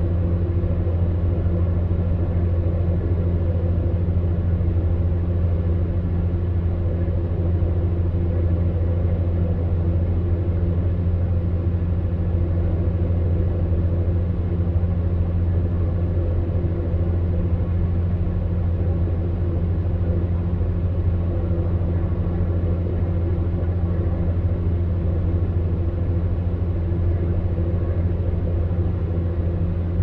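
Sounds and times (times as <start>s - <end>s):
electric fan heater humming: 0.0s - 30.0s.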